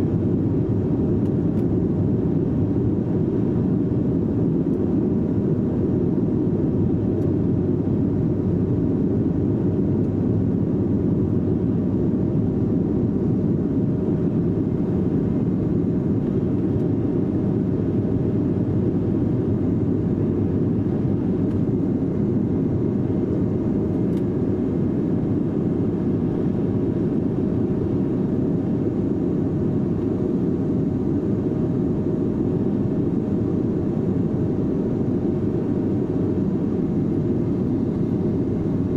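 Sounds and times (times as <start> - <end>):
aircraft cabin engine rumble: 0.0 - 38.9.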